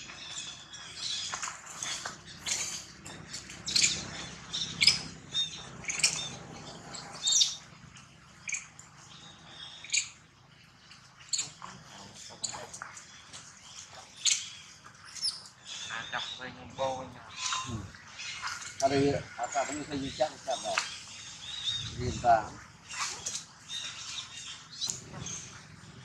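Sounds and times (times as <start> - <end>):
monkeys squeaking and chirping: 0.0 - 10.3, 11.1 - 26.0.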